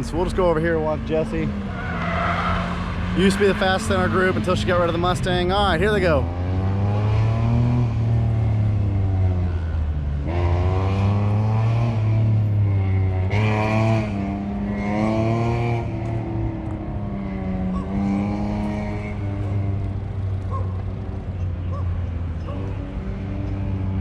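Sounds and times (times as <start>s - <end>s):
car engine revving: 0.4s - 24.0s.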